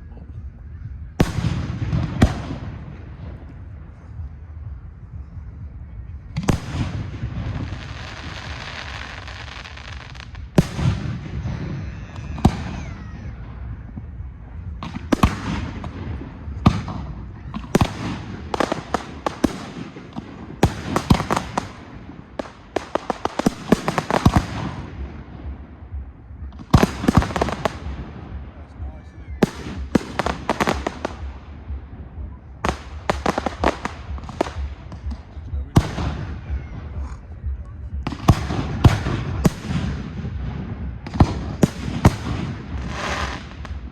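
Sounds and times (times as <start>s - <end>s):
fireworks crackling and hissing: 6.3s - 43.9s.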